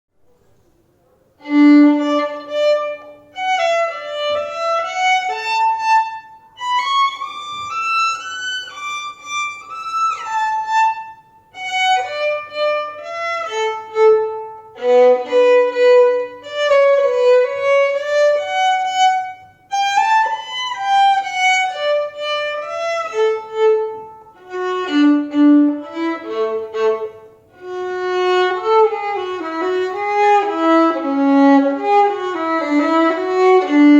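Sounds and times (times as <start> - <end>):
solo violin staccato tune: 1.4 - 33.9.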